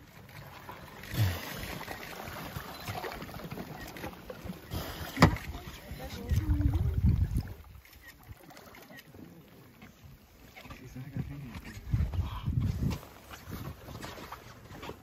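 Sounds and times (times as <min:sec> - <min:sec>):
water and ice sloshing: 0:00.0 - 0:15.0.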